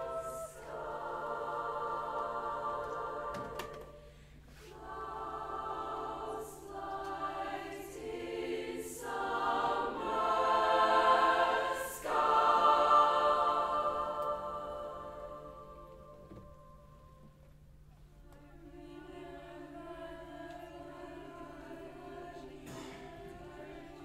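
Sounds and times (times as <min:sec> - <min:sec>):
girls' choir singing: 0:00.0 - 0:16.9, 0:18.4 - 0:24.0.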